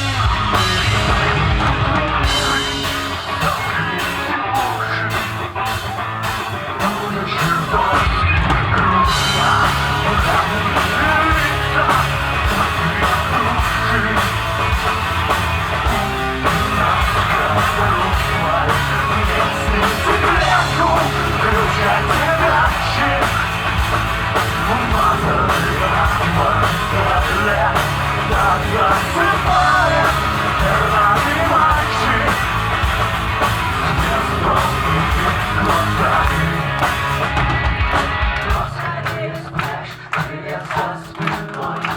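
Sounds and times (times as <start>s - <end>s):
driving drum kit: 0.0s - 41.9s
rock band playing live: 0.0s - 41.9s
shouted vocals: 0.0s - 41.9s.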